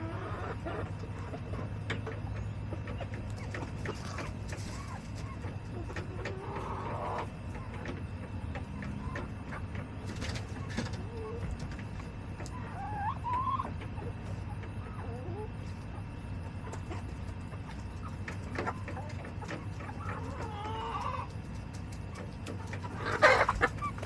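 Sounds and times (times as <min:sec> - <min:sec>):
hens clucking: 0:00.0 - 0:24.0
steady low hum: 0:00.0 - 0:24.0.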